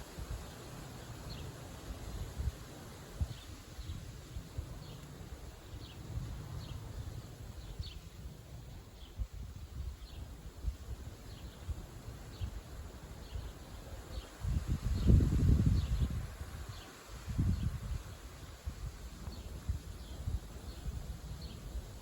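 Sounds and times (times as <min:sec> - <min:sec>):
wind gusting against microphone: 0:00.0 - 0:22.0.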